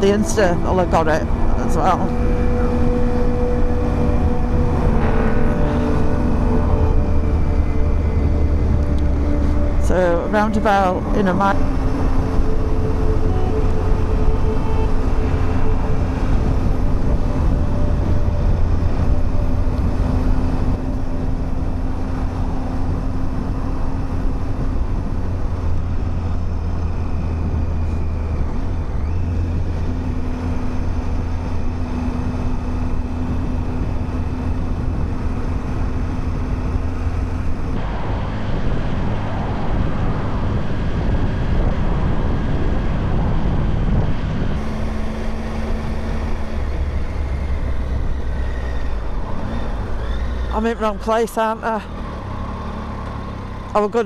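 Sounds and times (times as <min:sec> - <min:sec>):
motorcycle engine running: 0:00.0 - 0:37.8, 0:44.6 - 0:50.8
wind noise: 0:00.0 - 0:50.6
road noise: 0:00.0 - 0:54.0.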